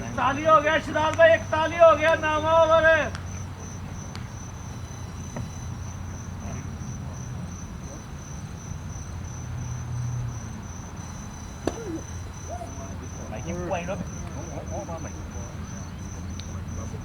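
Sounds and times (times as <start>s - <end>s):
insects chirping trill: 0.0s - 17.0s.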